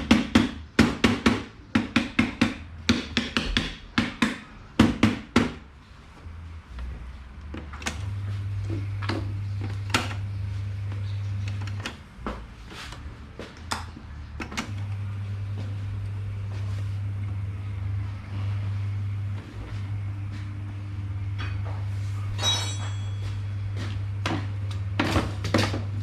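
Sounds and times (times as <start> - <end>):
electric fan motor humming: 0.0 - 26.0.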